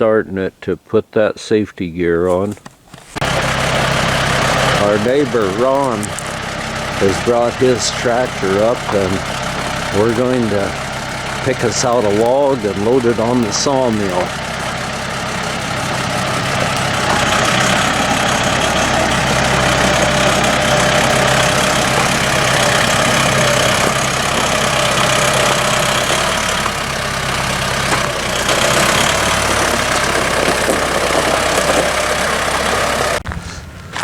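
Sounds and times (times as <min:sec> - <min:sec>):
tractor engine idling: 0:03.1 - 0:34.0.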